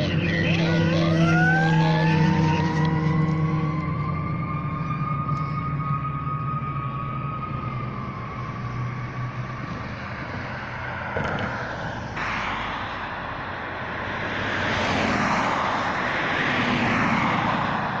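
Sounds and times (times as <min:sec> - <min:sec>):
roar of passing vehicles: 0:00.0 - 0:18.0.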